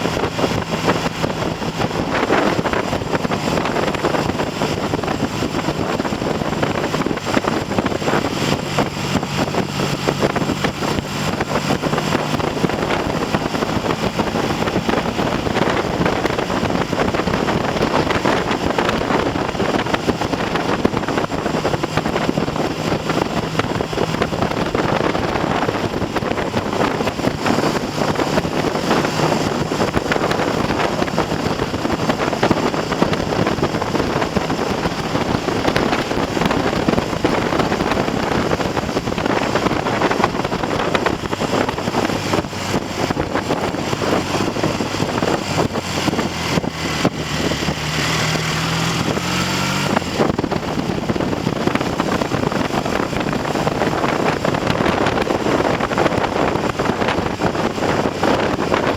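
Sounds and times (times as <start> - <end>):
motorcycle engine running: 0.0 - 58.9
wind buffeting microphone: 0.0 - 58.9.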